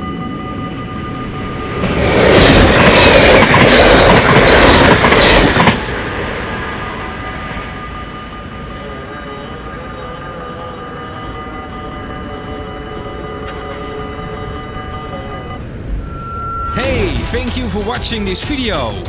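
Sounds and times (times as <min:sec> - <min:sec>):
level-crossing warning bells: 0:00.0 - 0:19.0
train passing with wheel clatter: 0:00.0 - 0:19.0.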